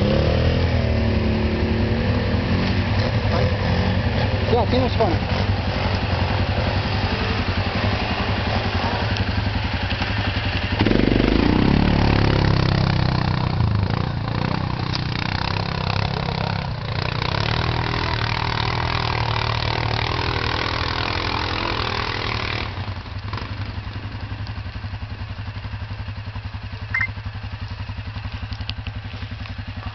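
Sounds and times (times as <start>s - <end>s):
atv engine revving and idling: 0.0s - 29.9s.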